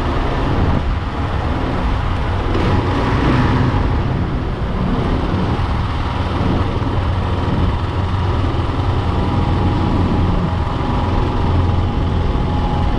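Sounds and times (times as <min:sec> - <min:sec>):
vehicle engine and road noise: 0:00.0 - 0:12.9.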